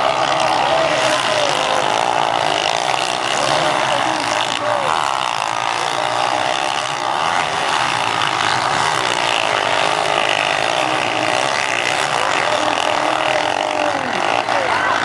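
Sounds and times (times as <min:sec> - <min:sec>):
motorcycle engines racing: 0:00.0 - 0:15.0.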